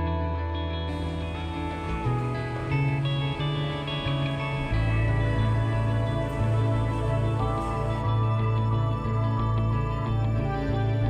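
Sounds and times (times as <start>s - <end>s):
plucked guitar music: 0.0s - 11.0s
steady bass: 0.0s - 11.0s.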